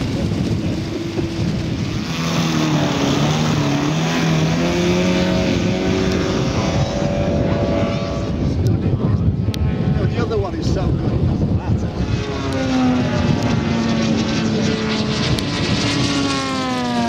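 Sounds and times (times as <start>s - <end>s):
model airplane engine droning: 0.0s - 17.0s
wind noise on microphone: 0.0s - 17.0s.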